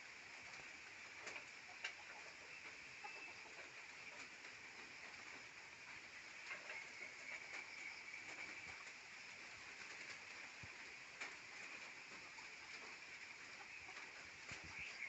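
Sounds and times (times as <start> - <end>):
faint bird sounds: 0.0 - 15.0
steady high hiss: 0.0 - 15.0
soft ticks: 0.3 - 9.0, 9.8 - 15.0.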